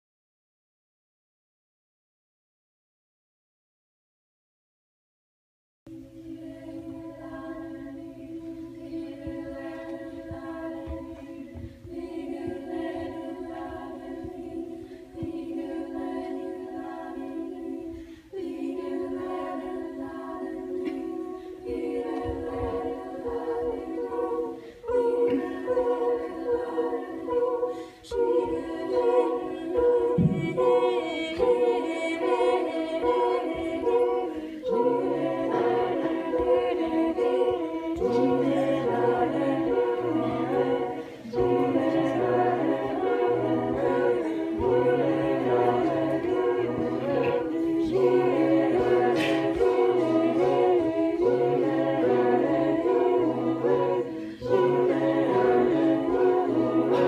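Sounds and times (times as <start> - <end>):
group singing a cappella: 5.9 - 57.0.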